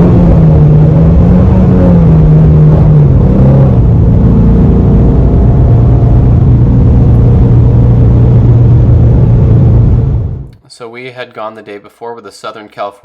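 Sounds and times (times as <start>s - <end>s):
car engine running: 0.0s - 10.5s.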